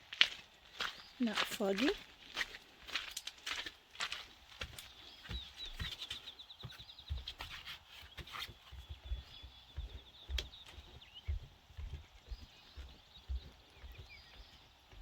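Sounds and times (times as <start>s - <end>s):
footsteps on ground: 0.0s - 15.0s.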